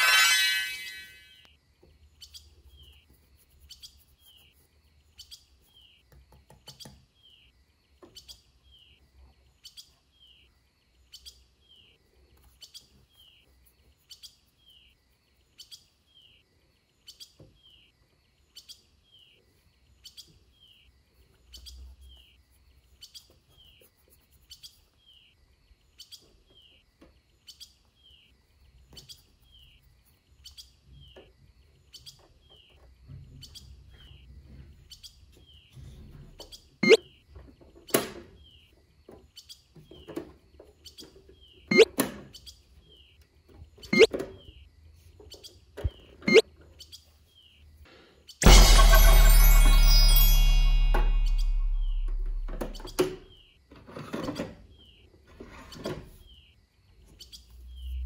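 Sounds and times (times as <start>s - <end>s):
bird-like chirps: 0.0s - 53.6s, 54.2s - 58.0s.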